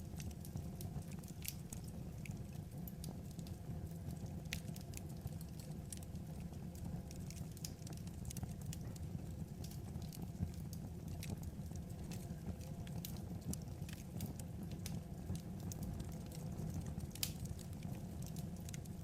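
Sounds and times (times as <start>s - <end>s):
fire low rumble: 0.0s - 19.0s
logs crackling and popping: 0.0s - 19.0s.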